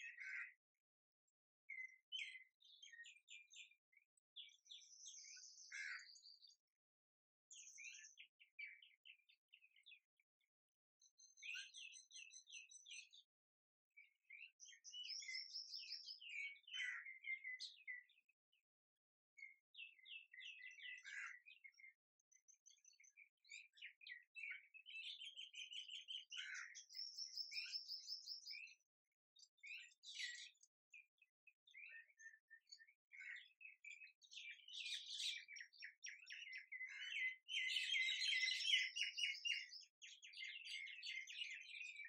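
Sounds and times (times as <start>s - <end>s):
birds chirping and trilling: 0.0s - 0.6s, 1.7s - 6.8s, 7.5s - 18.7s, 19.4s - 42.0s.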